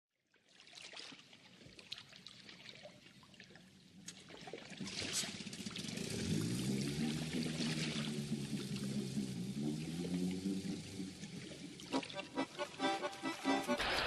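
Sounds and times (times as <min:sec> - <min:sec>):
water trickling and splashing: 0:00.3 - 0:13.5
crackly drips: 0:00.9 - 0:13.3.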